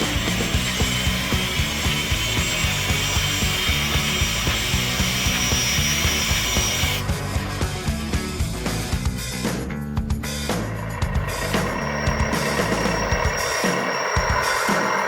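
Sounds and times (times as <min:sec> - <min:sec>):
rasping hydraulic pump whine: 0:00.0 - 0:09.5, 0:10.2 - 0:15.0
background music with steady beat: 0:00.0 - 0:15.0.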